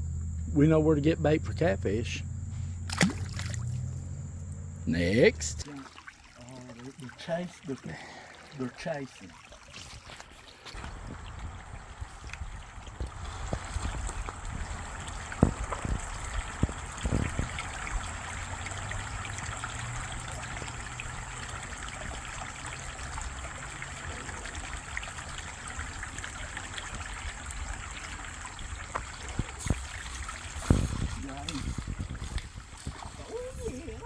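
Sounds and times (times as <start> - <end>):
water trickling over rocks: 2.9 - 34.0.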